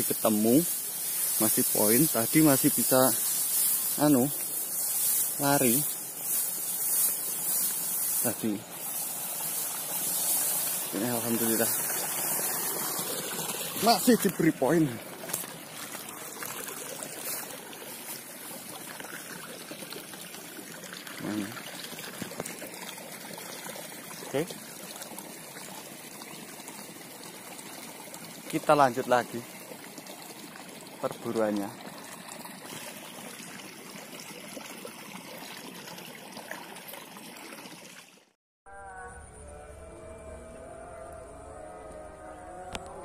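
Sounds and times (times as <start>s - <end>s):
water trickling: 0.0s - 38.3s.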